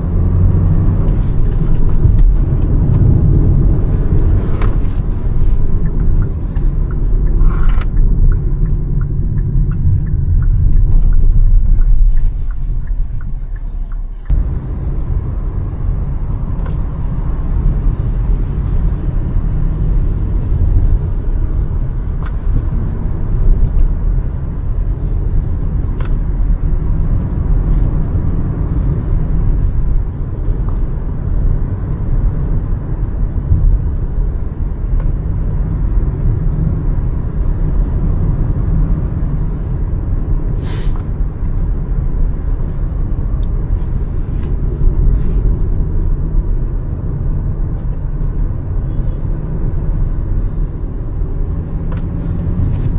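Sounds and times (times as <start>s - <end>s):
car engine and road noise rumble: 0.0s - 52.9s.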